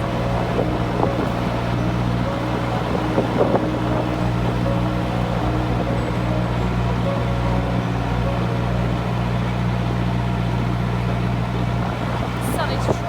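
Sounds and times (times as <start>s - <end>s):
boat engine low hum: 0.0s - 13.0s.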